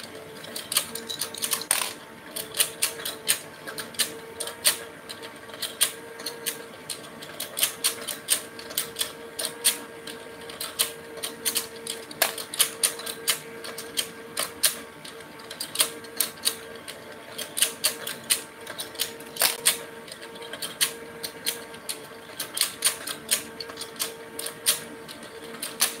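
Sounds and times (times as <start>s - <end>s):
rapid plastic clicking: 0.0s - 26.0s
toy motor hum: 0.0s - 26.0s.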